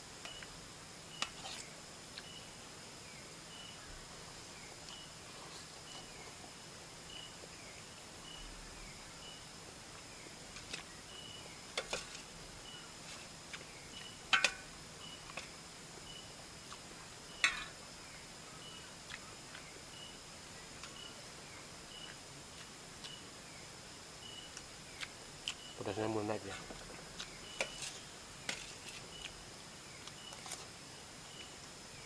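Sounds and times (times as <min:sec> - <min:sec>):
constant high buzz: 0:00.0 - 0:32.0
insects chirping: 0:00.0 - 0:32.0.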